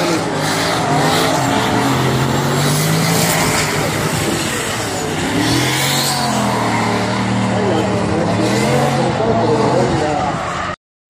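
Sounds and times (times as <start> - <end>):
car engines at high revs: 0.0 - 10.8
tyres spinning on asphalt: 0.0 - 10.8.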